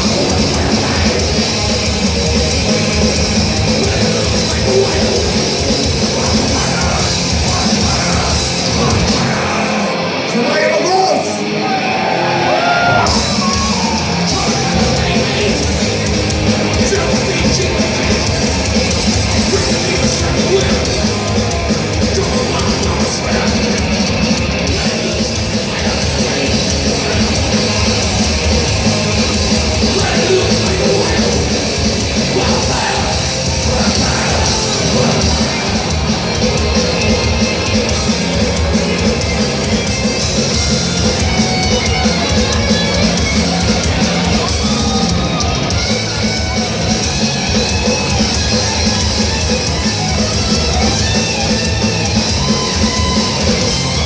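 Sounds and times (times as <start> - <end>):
distorted guitars: 0.0 - 54.0
drums: 0.0 - 54.0
shouted vocals: 0.0 - 54.0.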